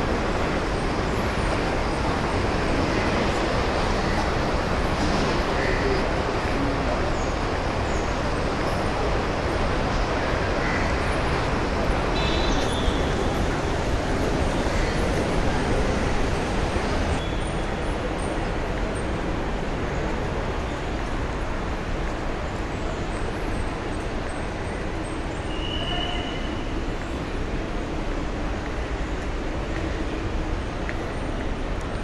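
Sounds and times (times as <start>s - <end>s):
traffic and crowd din: 0.0s - 32.0s.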